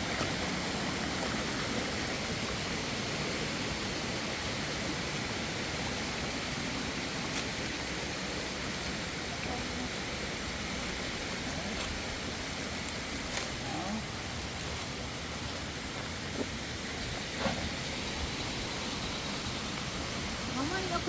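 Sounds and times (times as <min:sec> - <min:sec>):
rushing flowing water: 0:00.0 - 0:21.0.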